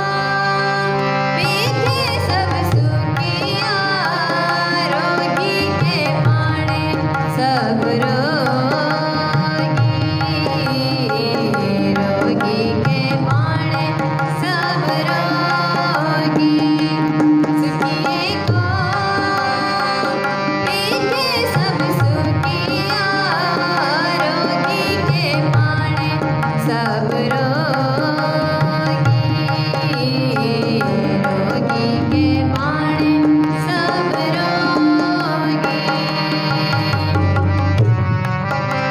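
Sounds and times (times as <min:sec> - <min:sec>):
woman singing: 0:00.0 - 0:37.9
harmoniums: 0:00.0 - 0:38.9
tabla beat: 0:00.0 - 0:38.9.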